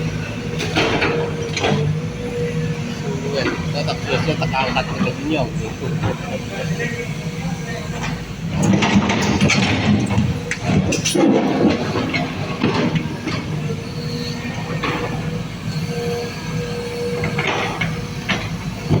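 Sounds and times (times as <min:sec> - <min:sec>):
excavator diesel drone: 0:00.0 - 0:19.0.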